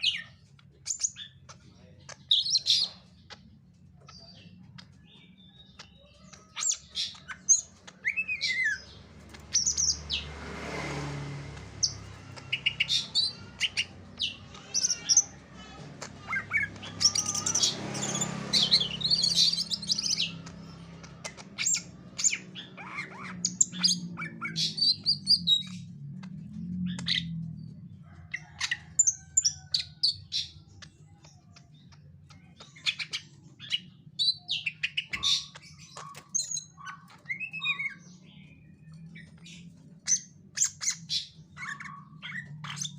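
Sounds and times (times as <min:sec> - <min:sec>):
bird chirping and squawking: 0:00.0 - 0:42.9.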